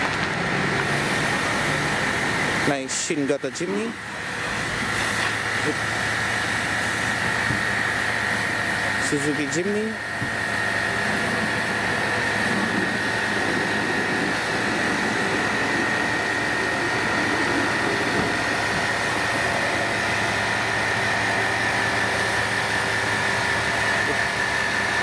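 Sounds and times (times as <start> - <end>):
machine drone with high whine: 0.0 - 25.0.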